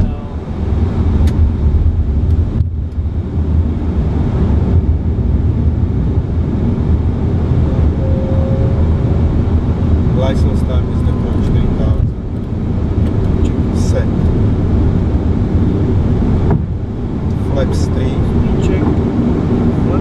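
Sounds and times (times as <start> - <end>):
airflow and engines rumble: 0.0 - 20.0.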